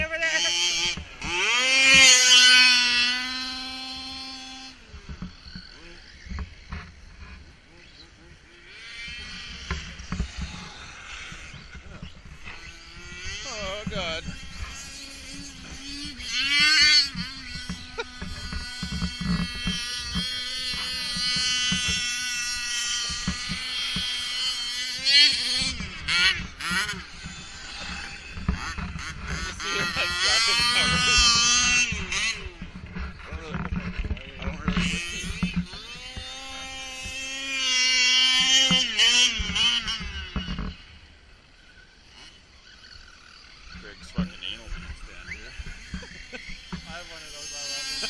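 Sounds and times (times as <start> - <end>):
toy truck electric motor whining: 0.2 - 33.2, 34.6 - 48.0.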